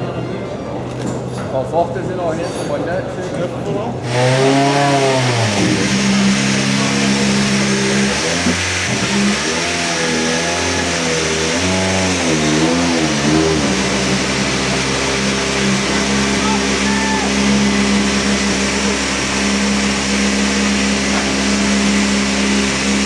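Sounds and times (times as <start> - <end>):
rally car engine revving: 4.0 - 23.0.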